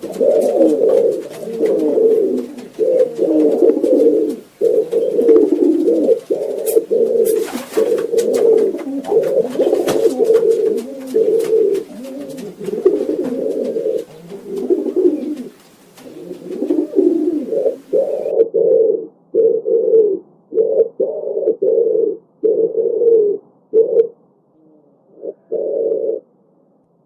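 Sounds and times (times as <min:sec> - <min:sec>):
pigeons cooing: 0:00.0 - 0:26.3.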